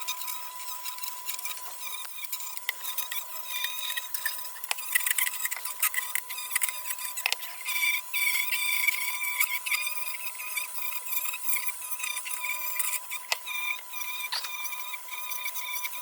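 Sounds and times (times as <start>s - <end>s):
rotary tool wire wheel grinding metal: 0.1s - 16.0s.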